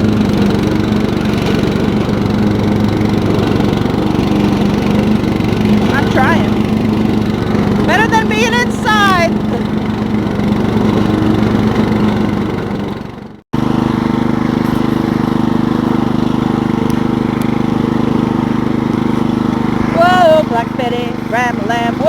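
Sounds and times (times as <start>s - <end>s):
riding lawn mower engine: 0.0s - 22.0s.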